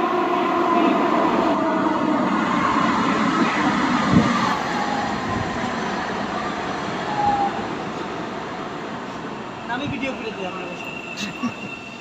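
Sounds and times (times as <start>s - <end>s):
train slowing into station: 0.0s - 12.0s.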